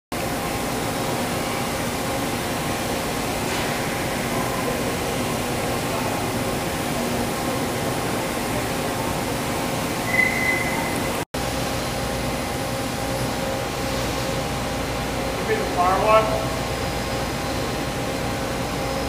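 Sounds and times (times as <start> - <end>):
factory hall hiss: 0.2 - 19.0
faint machine hum: 0.2 - 19.0.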